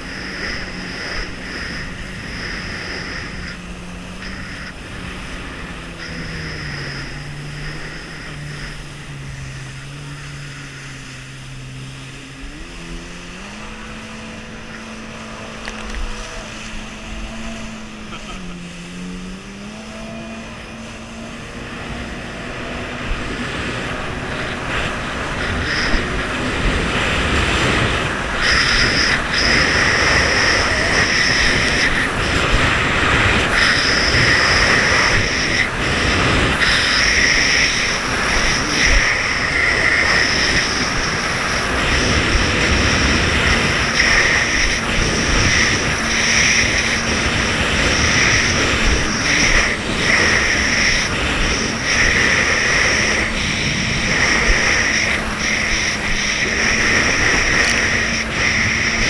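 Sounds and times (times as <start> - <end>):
rushing water hiss: 0.0 - 12.3, 22.7 - 59.0
jet ski engine: 0.0 - 59.0.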